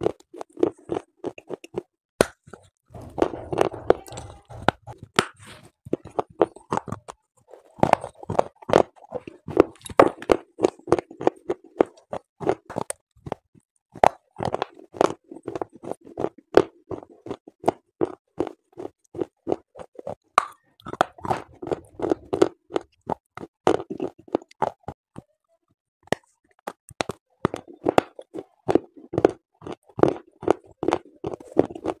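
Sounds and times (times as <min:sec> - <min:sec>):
crunching and chewing clay: 0:00.0 - 0:25.4, 0:26.0 - 0:32.0.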